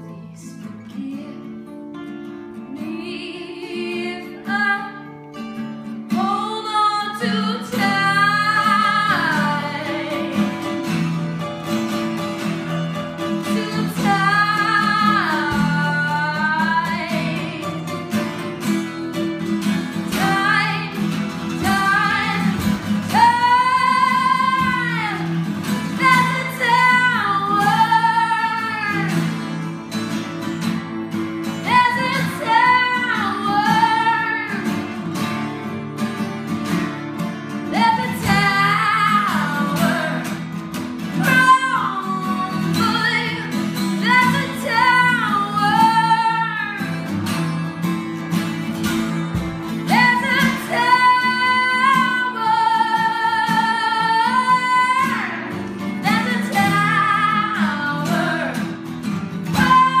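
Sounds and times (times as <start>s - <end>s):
woman singing: 0.0s - 1.9s, 2.5s - 11.0s, 13.2s - 18.5s, 19.9s - 29.7s, 31.4s - 35.0s, 37.6s - 47.6s, 49.6s - 60.0s
acoustic guitars: 0.0s - 60.0s.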